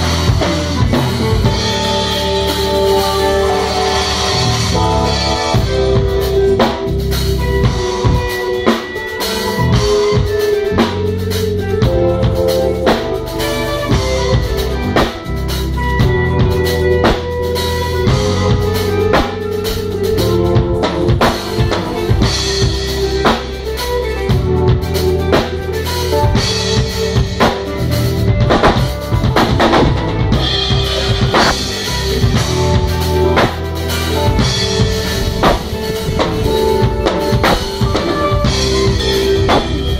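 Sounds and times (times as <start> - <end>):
drum kit playing: 0.0 - 39.9
keyboards playing: 0.0 - 39.9.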